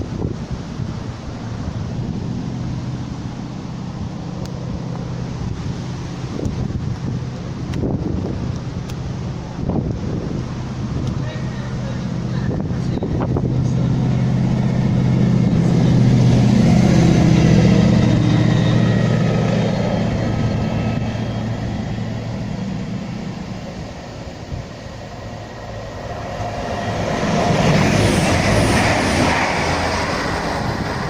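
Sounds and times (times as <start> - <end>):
broad rushing noise: 0.0 - 31.0
train engine hum: 0.0 - 31.0.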